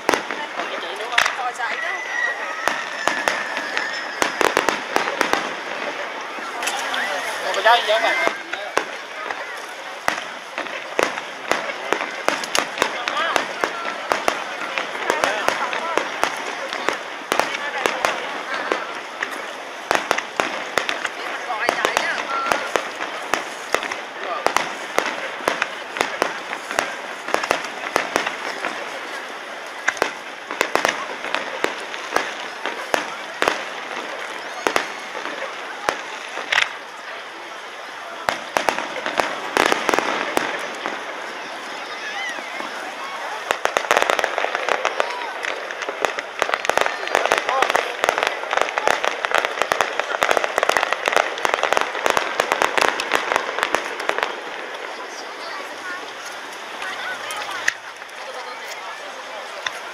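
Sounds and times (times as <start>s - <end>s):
firework shells bursting: 0.0s - 36.9s, 38.2s - 41.6s, 42.3s - 58.2s.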